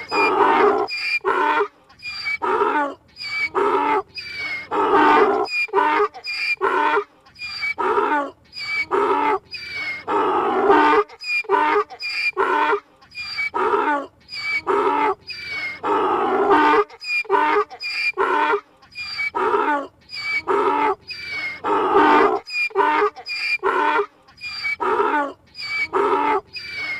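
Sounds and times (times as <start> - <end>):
donkey braying: 0.0 - 26.9.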